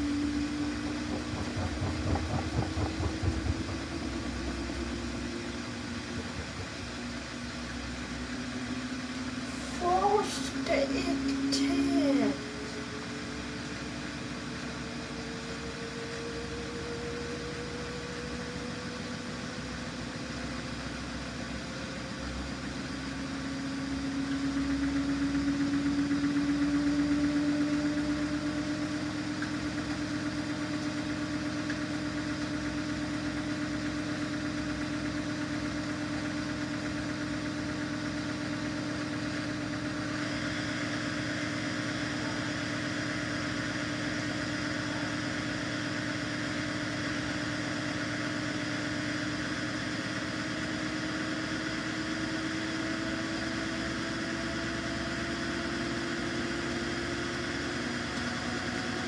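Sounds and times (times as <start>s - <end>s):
washing machine motor whine: 0.0s - 59.0s.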